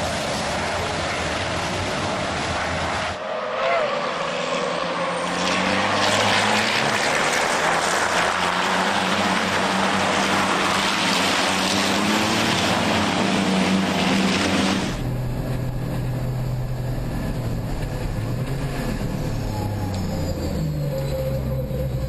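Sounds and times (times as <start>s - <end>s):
onboard truck engine drone: 0.0s - 22.0s
race truck engines running hard: 0.0s - 22.0s.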